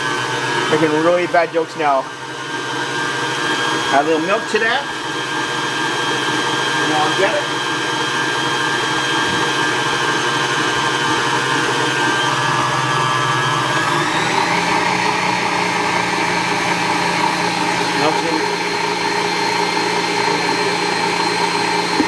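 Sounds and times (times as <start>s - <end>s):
stand mixer motor whining: 0.0s - 22.0s.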